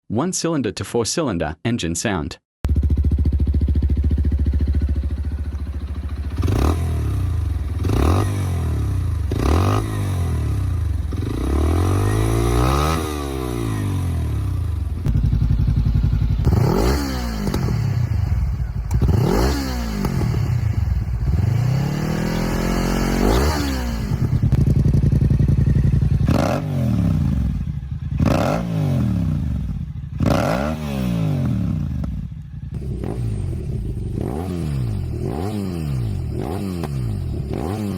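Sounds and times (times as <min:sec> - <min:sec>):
motorcycle engines revving: 0:02.7 - 0:37.9.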